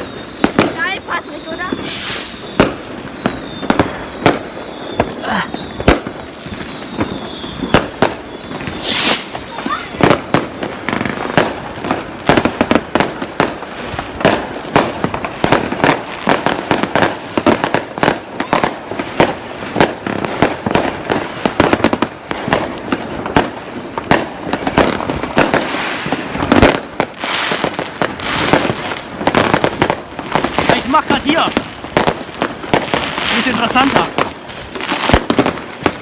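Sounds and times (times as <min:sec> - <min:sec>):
firecrackers crackling: 0:00.0 - 0:36.0
firework bangs: 0:00.0 - 0:36.0.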